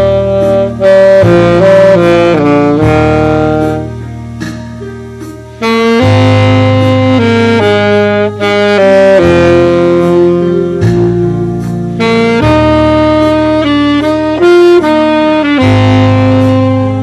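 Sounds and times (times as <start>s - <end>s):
backing track with bass: 0.0s - 17.0s
saxophone slow melody: 0.0s - 17.0s.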